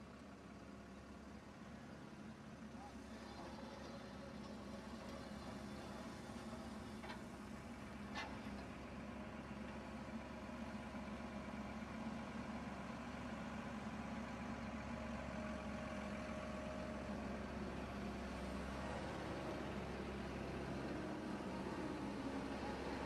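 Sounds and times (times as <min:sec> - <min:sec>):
diesel truck engine driving: 0:02.6 - 0:23.0.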